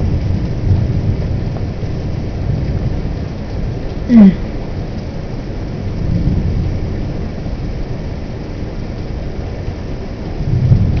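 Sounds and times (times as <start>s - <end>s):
heavy rain pouring: 0.0s - 11.0s
low thunder rumbles: 0.0s - 11.0s.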